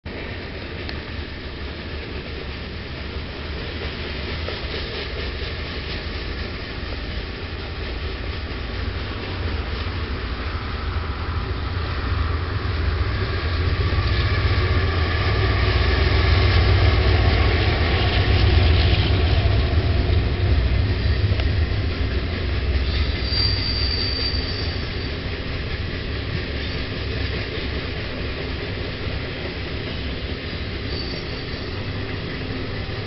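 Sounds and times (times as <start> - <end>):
diesel locomotive engine rumble: 0.0 - 33.0.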